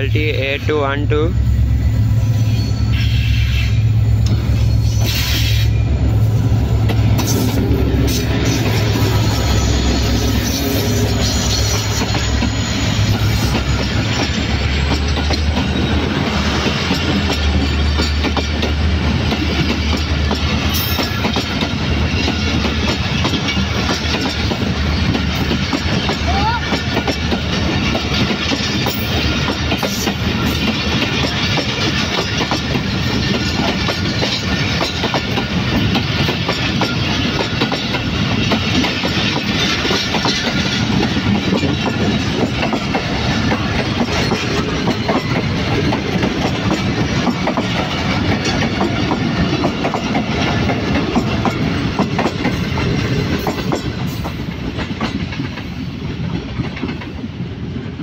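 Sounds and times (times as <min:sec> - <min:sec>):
train wheels clattering on rails: 0:02.5 - 0:58.0.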